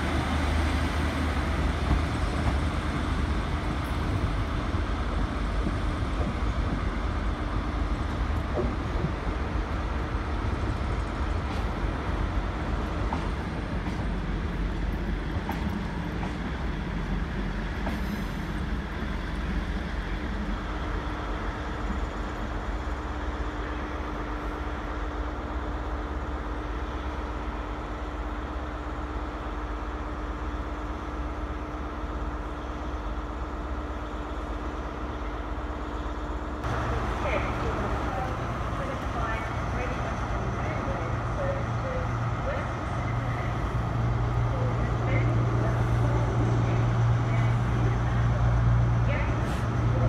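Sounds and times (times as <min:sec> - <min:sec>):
diesel train engine rumble: 0:00.0 - 0:50.0
train departing: 0:00.0 - 0:50.0.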